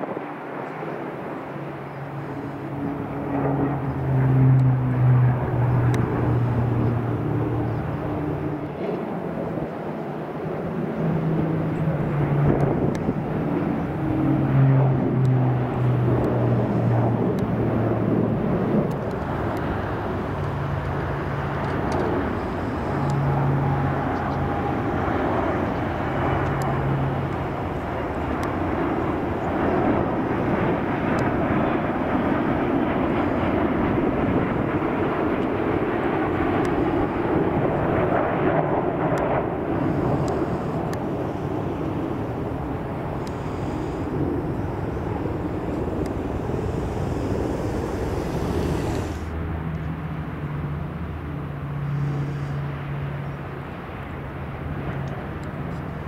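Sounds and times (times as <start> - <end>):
jet engines rushing overhead: 0.0 - 56.0
turboprop aircraft drone: 0.0 - 56.0.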